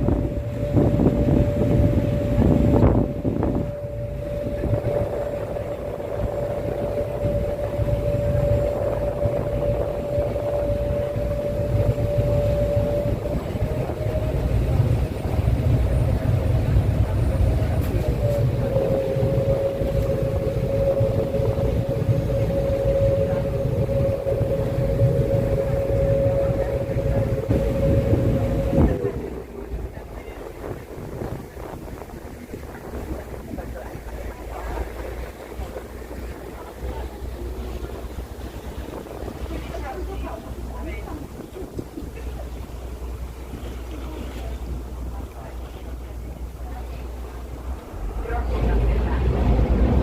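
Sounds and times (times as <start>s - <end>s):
constant whine: 0.0s - 50.0s
vehicle engine rumble: 0.0s - 50.0s.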